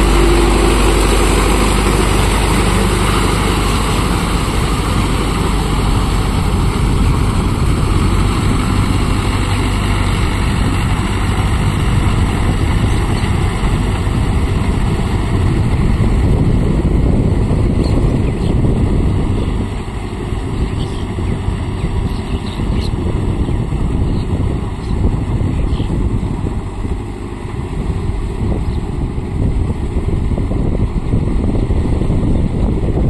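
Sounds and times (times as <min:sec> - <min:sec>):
tractor diesel engine rumbling: 0:00.0 - 0:33.0.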